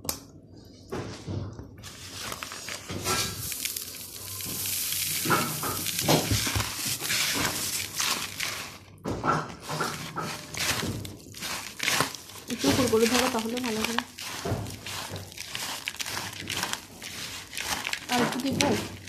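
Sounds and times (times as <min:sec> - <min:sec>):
dry puffed rice rustling in bowl: 0:01.8 - 0:19.0.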